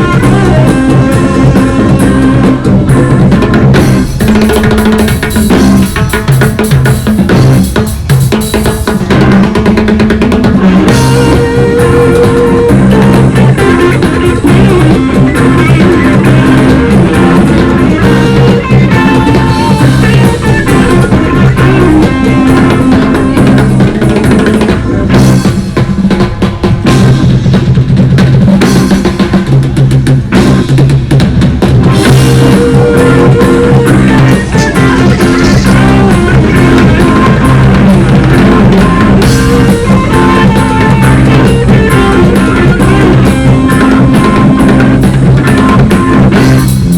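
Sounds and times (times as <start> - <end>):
instrumental rock band music: 0.0 - 46.9.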